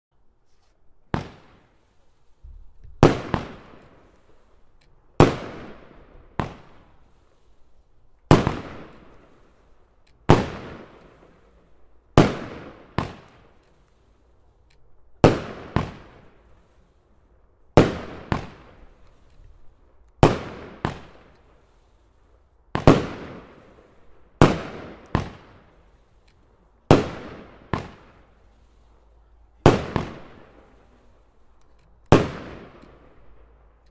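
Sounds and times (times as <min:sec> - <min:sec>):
fireworks bursting with loud bangs: 0:01.1 - 0:14.3, 0:15.2 - 0:33.8.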